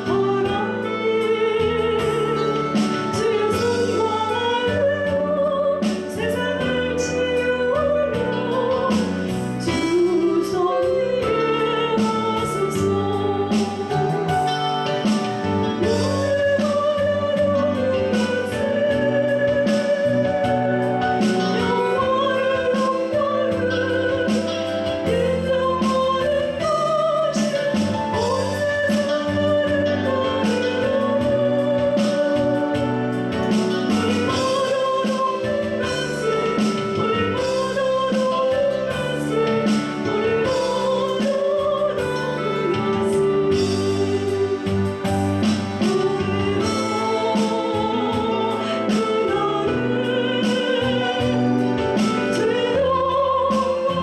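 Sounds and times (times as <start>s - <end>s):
instrumental accompaniment: 0.0s - 54.0s
woman singing with vibrato: 0.0s - 54.0s.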